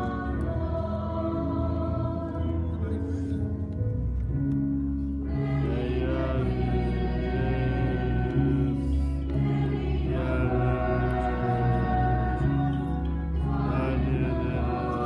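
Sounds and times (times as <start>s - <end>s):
choir singing held notes: 0.0s - 3.1s, 5.3s - 15.0s.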